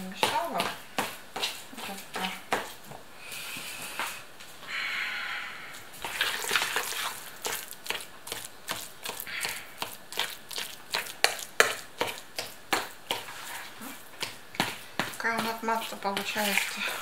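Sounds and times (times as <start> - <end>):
utensil mashing wet mixture: 0.0 - 2.8, 6.0 - 17.0.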